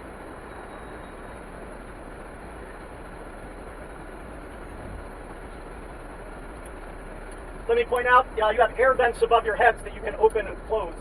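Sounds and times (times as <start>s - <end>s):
vehicle cabin road noise: 0.0s - 11.0s.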